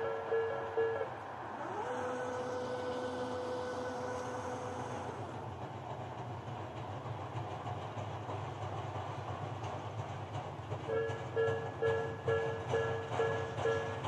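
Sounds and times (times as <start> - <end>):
rail vehicle rumble: 0.0 - 14.0.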